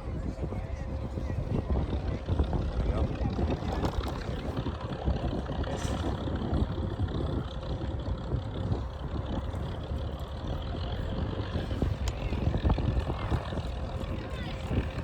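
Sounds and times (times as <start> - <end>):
piston aircraft engines droning: 0.0 - 15.0.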